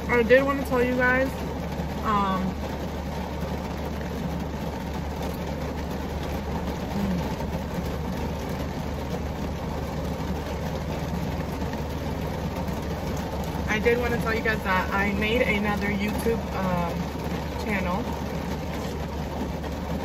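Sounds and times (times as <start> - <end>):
heavy rain on car roof: 0.0 - 20.0.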